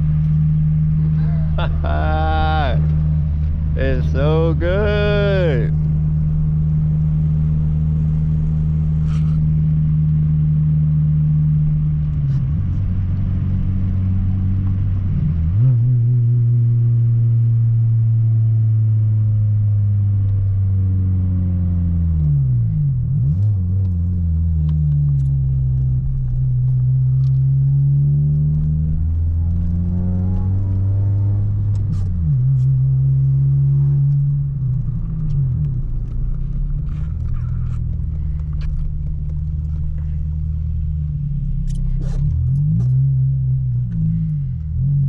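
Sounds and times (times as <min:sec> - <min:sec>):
car engine droning through exhaust: 0:00.0 - 0:45.0.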